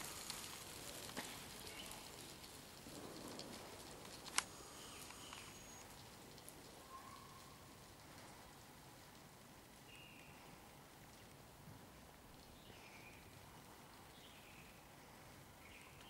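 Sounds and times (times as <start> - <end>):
small ticks: 0.0 - 11.4, 12.0 - 14.8
wet street hiss: 0.0 - 16.0.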